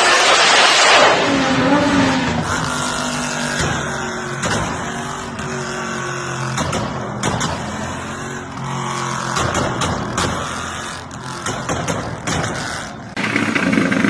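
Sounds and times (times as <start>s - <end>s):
car engine running: 0.0s - 14.0s
exhaust pops: 0.1s - 14.0s.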